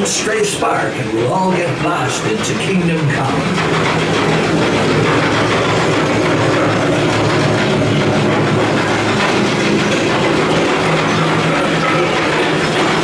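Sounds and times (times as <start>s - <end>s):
ride cars rumbling on track: 0.0s - 13.0s.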